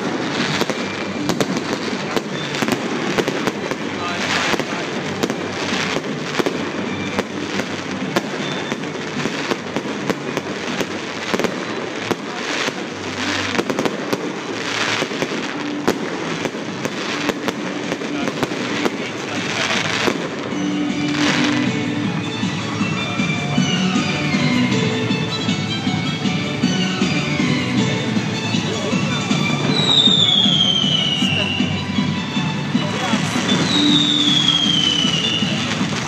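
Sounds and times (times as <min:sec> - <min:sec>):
fireworks bursting and crackling: 0:00.0 - 0:36.0
music: 0:00.0 - 0:36.0.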